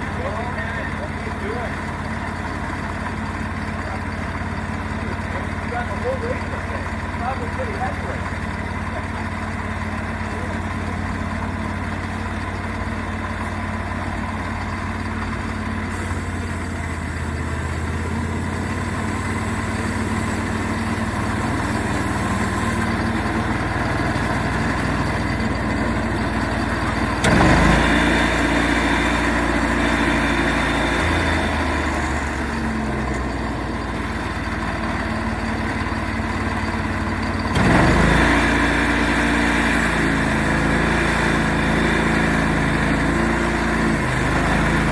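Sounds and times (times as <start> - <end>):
sawmill engine running: 0.0 - 44.9.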